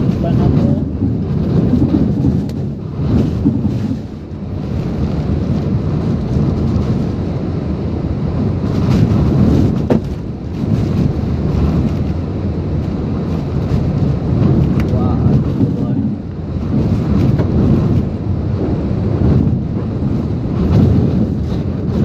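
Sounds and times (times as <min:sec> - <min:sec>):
heavy rain: 0:00.0 - 0:22.0
strong wind gusts: 0:00.0 - 0:22.0
wind buffeting microphone: 0:00.0 - 0:22.0.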